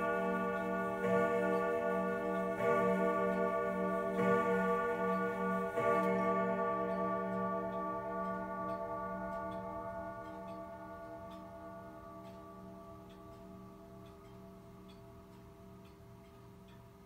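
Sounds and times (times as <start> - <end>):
clock chime striking: 0.0 - 15.0
pendulum ticking: 0.0 - 17.0.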